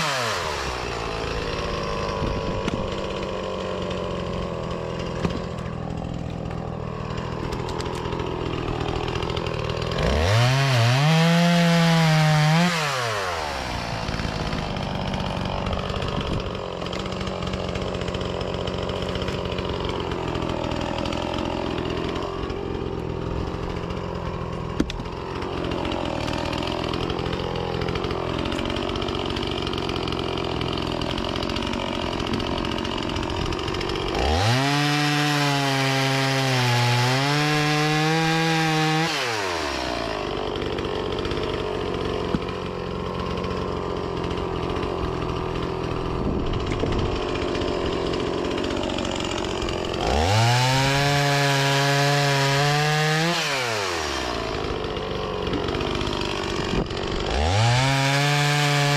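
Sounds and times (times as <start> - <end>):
two-stroke chainsaw running: 0.0 - 58.9.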